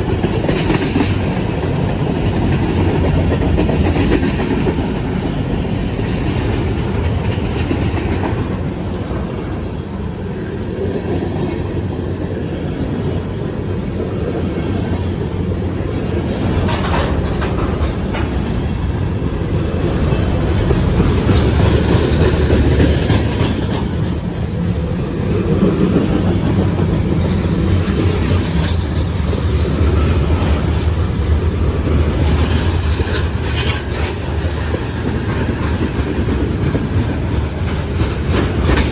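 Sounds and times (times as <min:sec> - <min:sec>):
wheels clicking over rail joints: 0:00.0 - 0:09.9, 0:13.0 - 0:38.9
freight train rumbling: 0:00.0 - 0:38.9.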